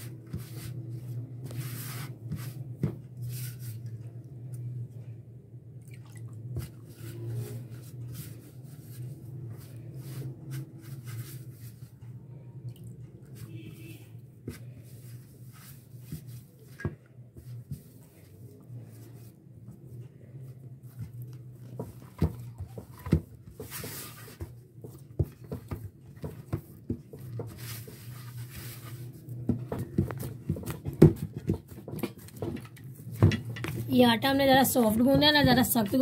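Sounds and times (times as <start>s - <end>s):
hands kneading dough in bowl: 0.0s - 5.0s, 6.0s - 36.0s.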